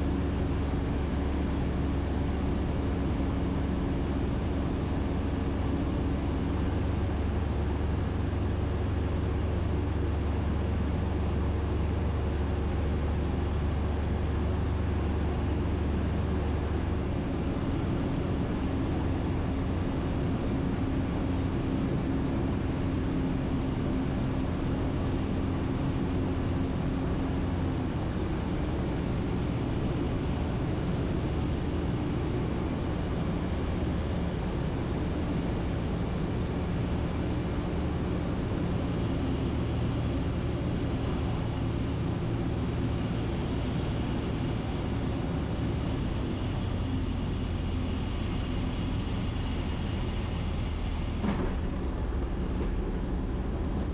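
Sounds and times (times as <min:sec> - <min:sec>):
light aircraft engine running: 0:00.0 - 0:53.9.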